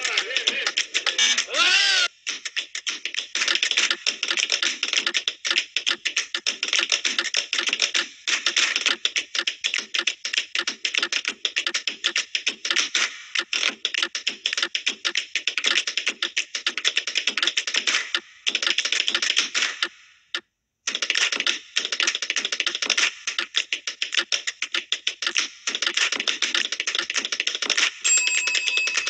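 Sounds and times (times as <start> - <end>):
rapid dense clicking: 2.2 - 19.9, 20.9 - 28.0.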